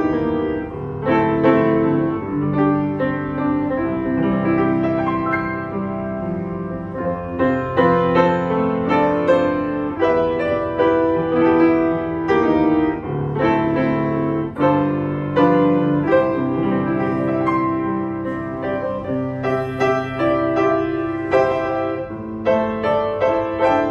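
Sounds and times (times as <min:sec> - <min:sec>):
upright piano playing: 0:00.0 - 0:23.9.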